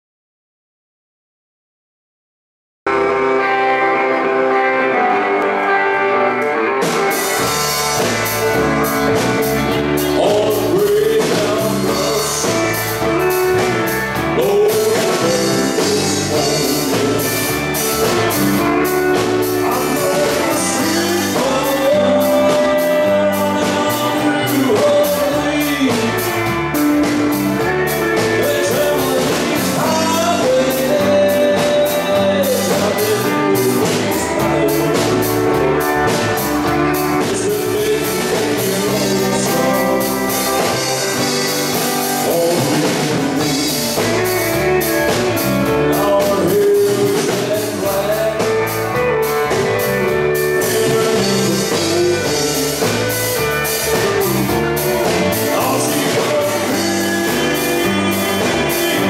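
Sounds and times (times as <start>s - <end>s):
drum kit: 2.9s - 59.0s
rock and roll band playing: 2.9s - 59.0s
lead vocal singing: 7.0s - 59.0s.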